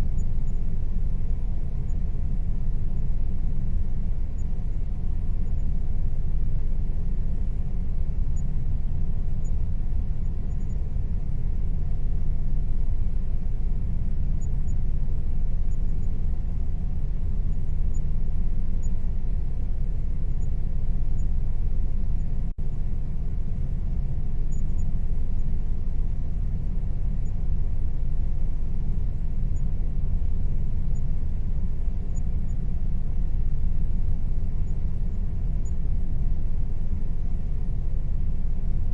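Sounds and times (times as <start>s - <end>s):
air conditioner humming: 0.0s - 38.9s
faint steady tone: 0.0s - 38.9s.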